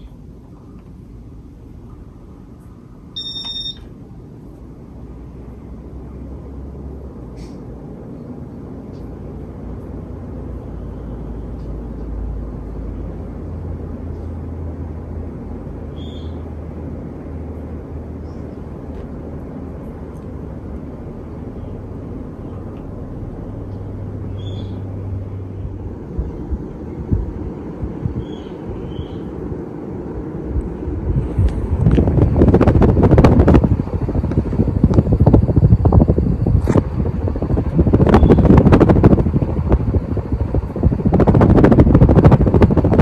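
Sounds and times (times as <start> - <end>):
ceiling fan motor hum: 0.0 - 43.0
air whooshing off fan blades: 3.9 - 43.0.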